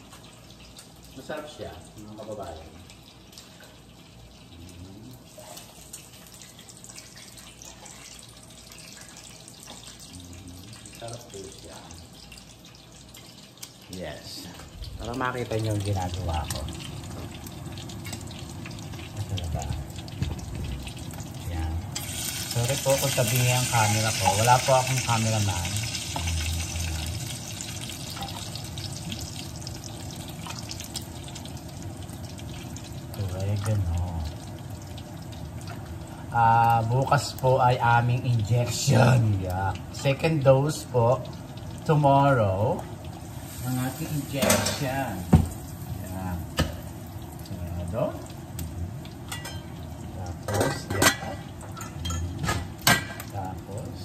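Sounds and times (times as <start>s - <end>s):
sausage sizzling in a pan: 0.0s - 54.0s.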